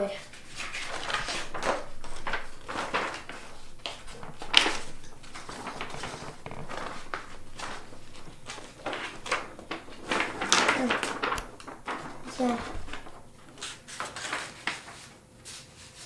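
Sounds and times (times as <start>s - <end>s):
plastic rustling and clicking: 0.0s - 15.0s.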